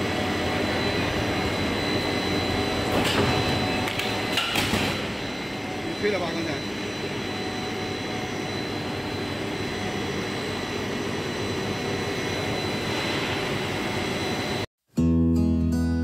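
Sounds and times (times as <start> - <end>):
high constant whine: 0.0 - 14.7
machine hum and hiss: 0.0 - 14.7.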